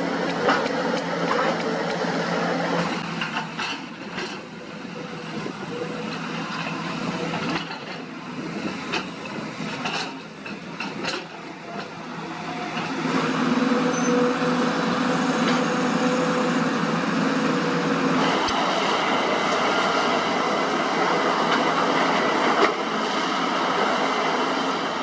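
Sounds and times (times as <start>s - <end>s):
heavy machinery diesel engine: 0.0s - 25.0s.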